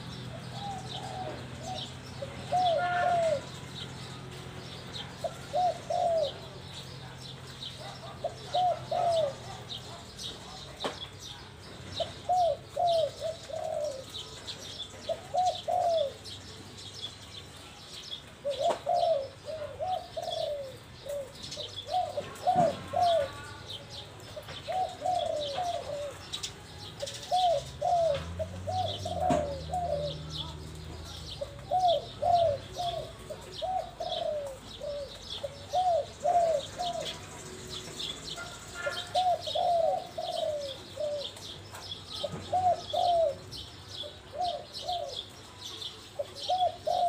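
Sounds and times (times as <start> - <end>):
dove cooing: 0.0 - 10.7, 11.7 - 17.3, 18.3 - 47.0
birds chirping: 0.0 - 47.0.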